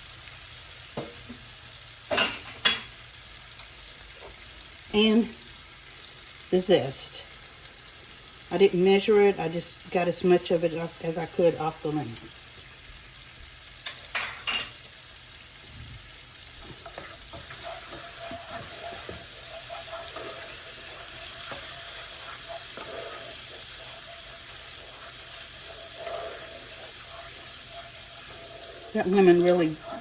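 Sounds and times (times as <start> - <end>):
food sizzling in butter: 0.0 - 30.0.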